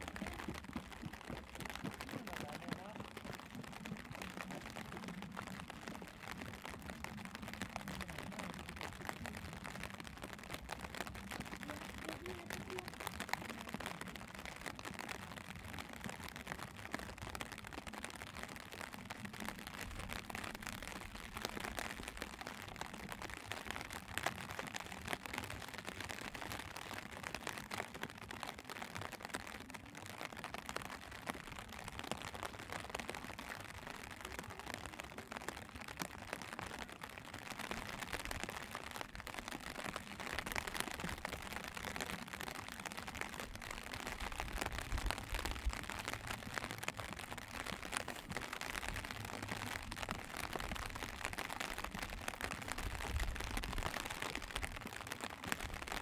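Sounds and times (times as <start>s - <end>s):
rain pattering on umbrella: 0.0s - 56.0s.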